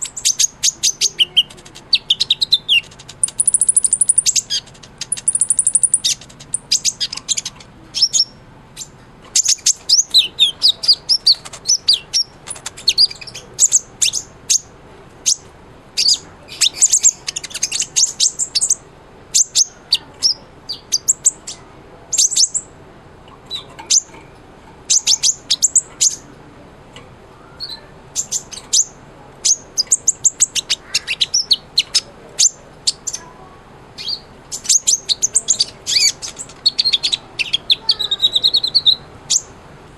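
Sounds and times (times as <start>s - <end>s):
sunbird singing: 0.0s - 26.4s, 27.3s - 39.6s.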